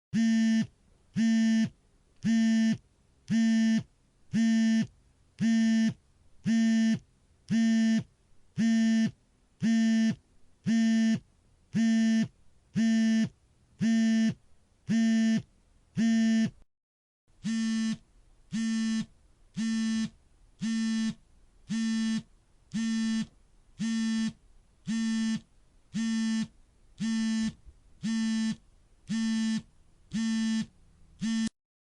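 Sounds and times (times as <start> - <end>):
smartphone vibrating buzz: 0.2 - 11.2, 11.8 - 16.6, 17.4 - 31.6.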